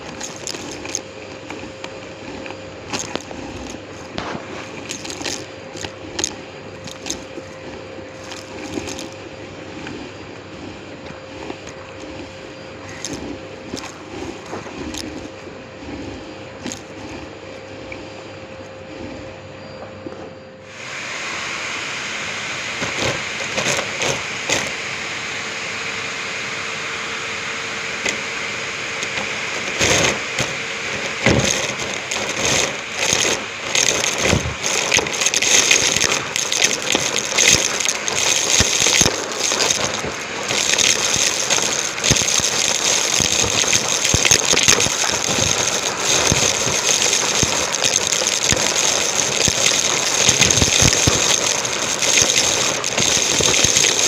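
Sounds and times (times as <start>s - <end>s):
debris rattling through hose: 0.0s - 17.9s, 22.6s - 24.8s, 27.8s - 54.0s
vacuum cleaner running: 0.0s - 54.0s.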